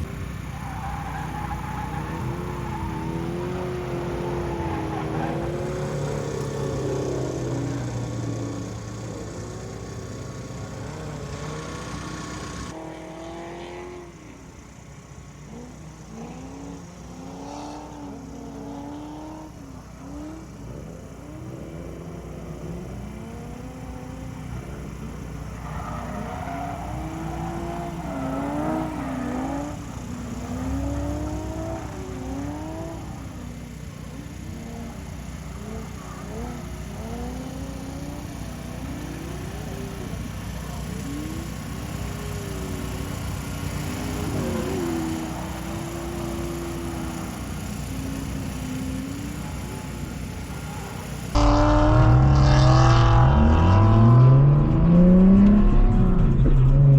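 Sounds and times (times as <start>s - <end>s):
car engine revving: 0.0s - 14.4s, 15.4s - 56.9s.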